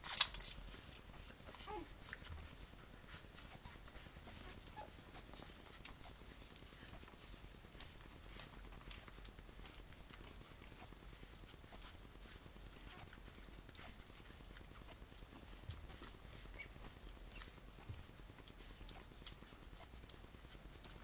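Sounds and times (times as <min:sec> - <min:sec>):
puppies suckling wet clicks: 0:00.0 - 0:21.0.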